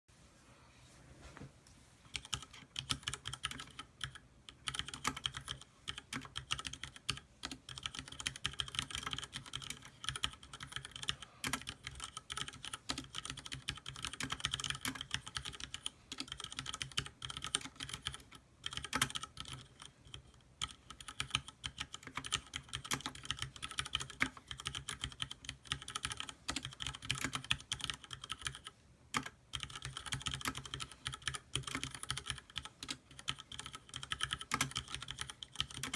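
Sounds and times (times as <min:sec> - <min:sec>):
mechanical keyboard typing: 0:02.1 - 0:35.9.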